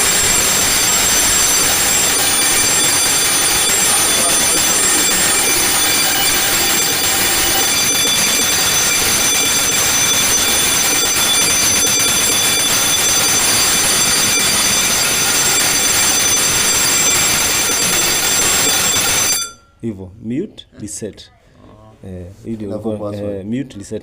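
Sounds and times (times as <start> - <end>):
fire alarm ringing: 0.0 - 19.8.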